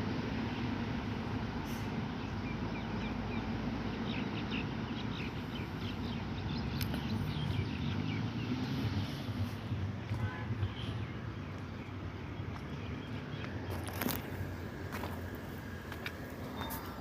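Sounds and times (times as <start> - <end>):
steady low rumble: 0.0 - 17.0
small birds chirping: 2.1 - 17.0.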